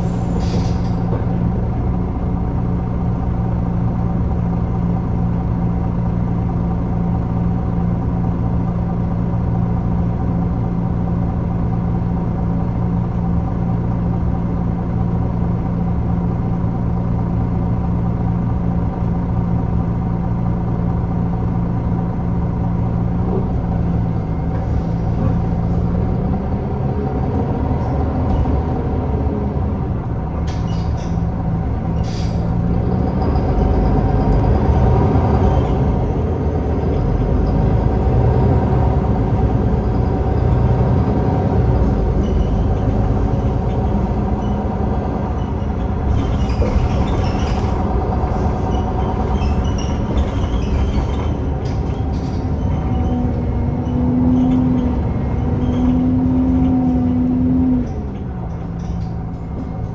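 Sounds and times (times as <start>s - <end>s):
bus diesel engine humming: 0.0s - 59.9s.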